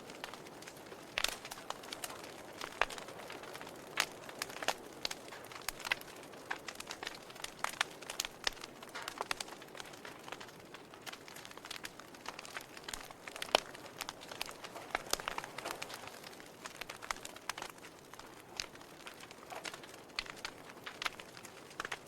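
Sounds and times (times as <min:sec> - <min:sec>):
fire popping: 0:00.0 - 0:22.0
soft fire hiss: 0:00.0 - 0:22.0
wood fire crackling: 0:00.0 - 0:22.0.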